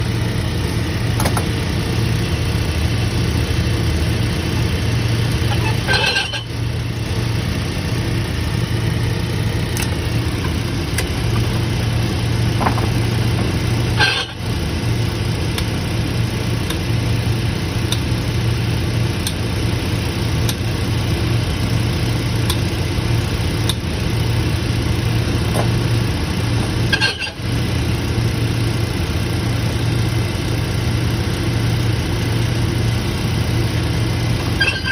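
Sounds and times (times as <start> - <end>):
electric motor hum: 0.0 - 29.7.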